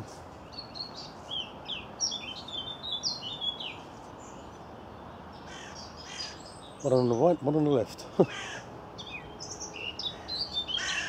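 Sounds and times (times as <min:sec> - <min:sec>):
bird warbling song: 0:00.0 - 0:11.0.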